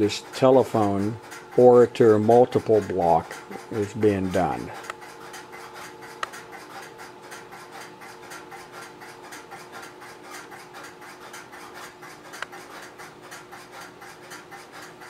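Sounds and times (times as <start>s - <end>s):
electrical equipment hum: 0.0s - 15.0s.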